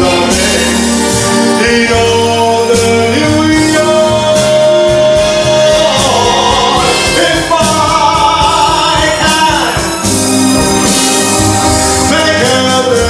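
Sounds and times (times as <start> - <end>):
man singing into a microphone: 0.0 - 10.1, 12.0 - 13.0
backing music: 0.0 - 13.0.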